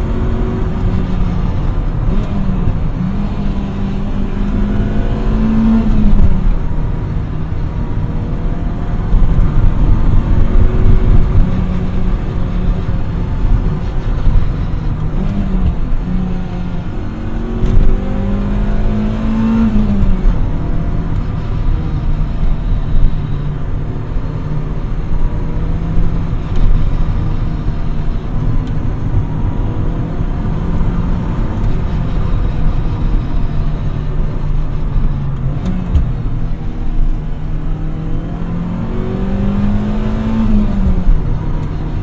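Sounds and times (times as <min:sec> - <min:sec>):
road and wind rumble: 0:00.0 - 0:42.0.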